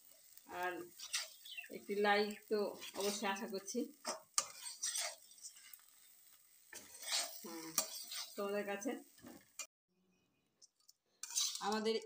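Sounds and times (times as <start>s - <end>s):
metal spatula scraping in a pan: 0.0s - 9.7s, 10.6s - 12.0s.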